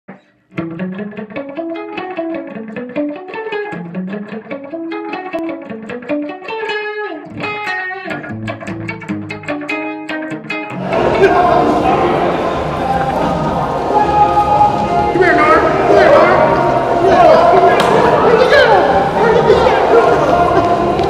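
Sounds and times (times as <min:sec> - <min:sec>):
plucked guitar music: 0:00.1 - 0:21.0.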